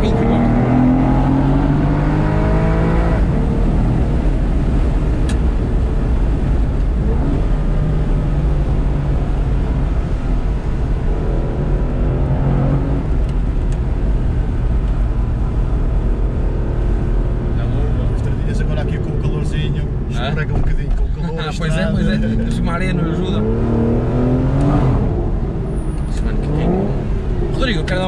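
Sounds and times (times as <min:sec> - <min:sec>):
car engine accelerating: 0:00.0 - 0:28.0
road noise: 0:00.0 - 0:28.0.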